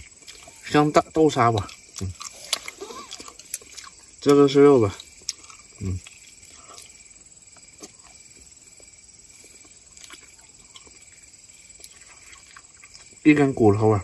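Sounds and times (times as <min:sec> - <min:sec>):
soft chewing clicks: 0:00.0 - 0:13.3
night insects trilling: 0:00.0 - 0:14.0.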